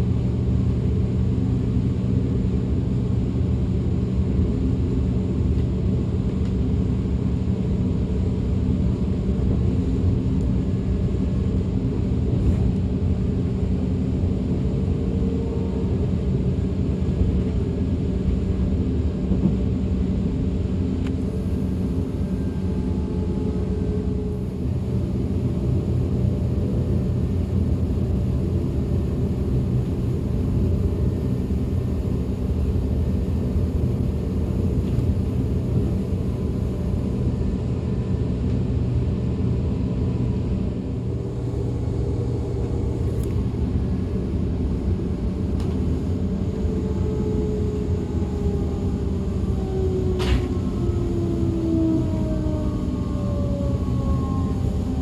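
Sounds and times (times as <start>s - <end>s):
train wheels rumbling on rail: 0.0s - 55.0s
traction drive whine: 7.5s - 55.0s.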